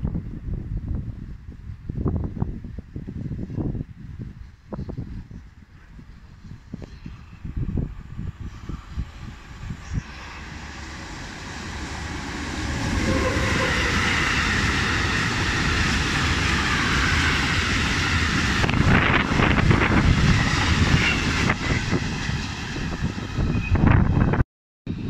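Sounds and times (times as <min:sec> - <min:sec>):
freight train rumbling past: 0:03.4 - 0:25.0.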